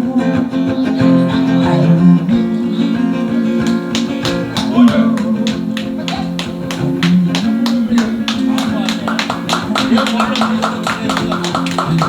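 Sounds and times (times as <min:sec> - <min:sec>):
acoustic guitar ballad: 0:00.0 - 0:12.0.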